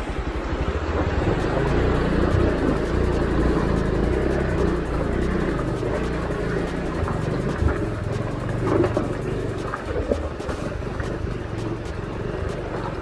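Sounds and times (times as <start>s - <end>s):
motorcycle engine at low revs: 0.9s - 13.0s.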